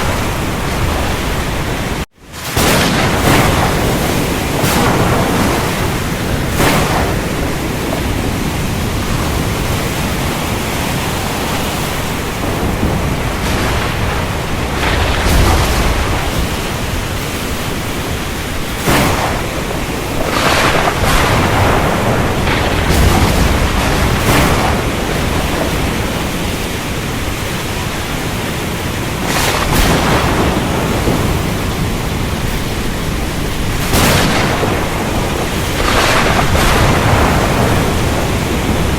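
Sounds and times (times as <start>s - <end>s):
deep thunder rumbles: 0.0s - 38.9s
heavy rain: 0.0s - 38.9s
thunder cracks: 0.0s - 38.9s.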